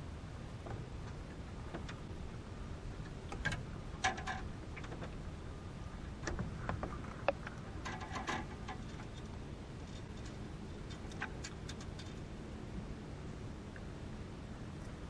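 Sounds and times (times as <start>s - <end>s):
faint low rumble: 0.0s - 15.0s
small clicks and knocks in boat: 0.5s - 12.8s.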